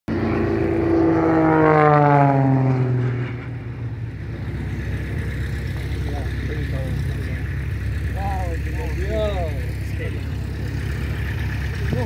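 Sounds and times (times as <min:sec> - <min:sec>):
propeller aircraft flying past: 0:00.1 - 0:12.0.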